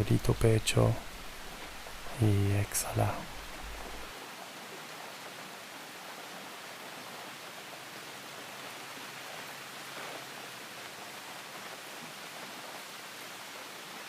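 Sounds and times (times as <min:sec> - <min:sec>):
soft steady rain: 0:00.0 - 0:14.0.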